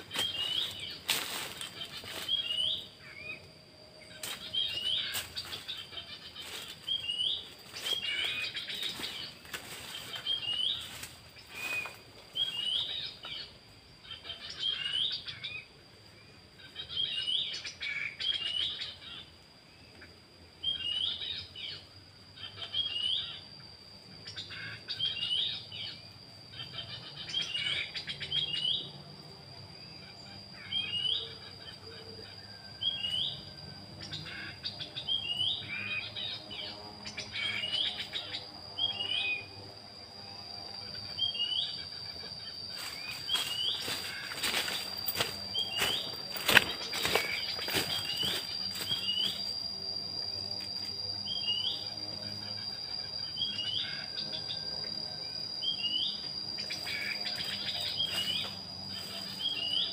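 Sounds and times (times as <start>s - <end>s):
high-pitched whine: 0.0s - 19.4s, 20.0s - 59.9s.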